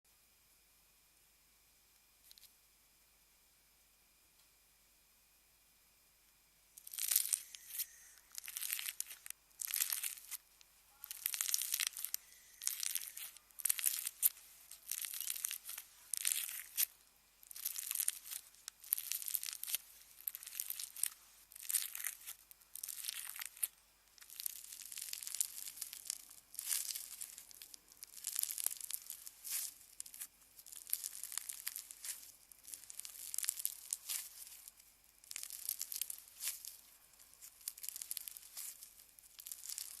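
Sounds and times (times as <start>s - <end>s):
slime crackling and popping: 6.8s - 40.0s.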